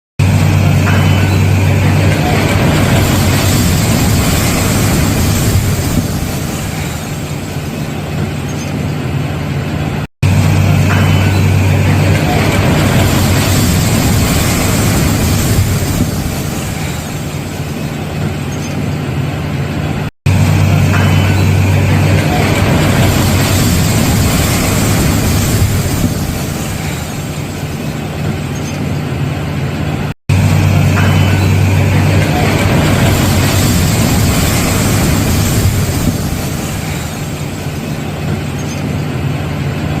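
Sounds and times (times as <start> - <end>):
engine hum: 0.2 - 40.0
heavy demolition machinery: 0.2 - 40.0.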